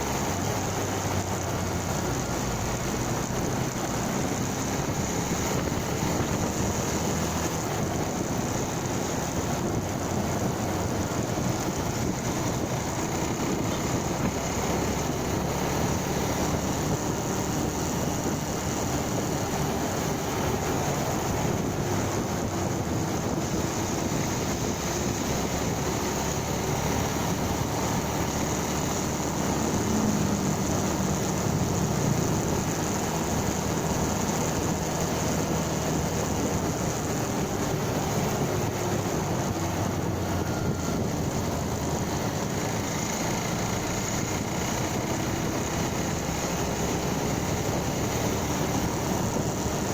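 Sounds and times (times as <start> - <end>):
motorcycle engine running: 0.0 - 49.9
wind noise on microphone: 0.0 - 49.9.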